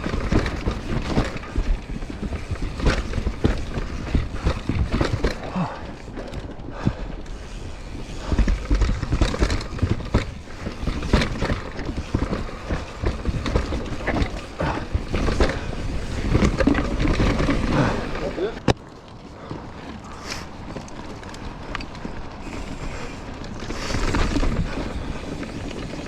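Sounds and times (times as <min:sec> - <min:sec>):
bike clattering over bumps: 0:00.0 - 0:26.0
continuous low rumble: 0:00.0 - 0:26.0.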